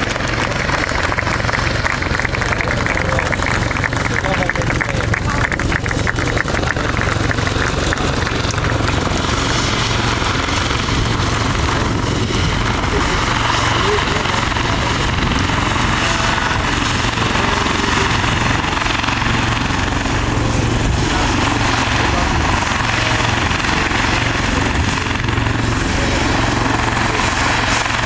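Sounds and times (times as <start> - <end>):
aircraft piston engine droning: 0.0 - 28.0.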